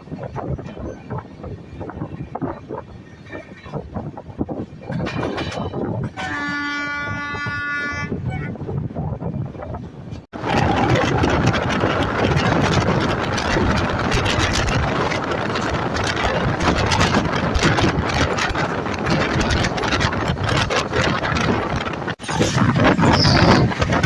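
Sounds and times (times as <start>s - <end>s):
train rumbling on track: 0.0s - 24.0s.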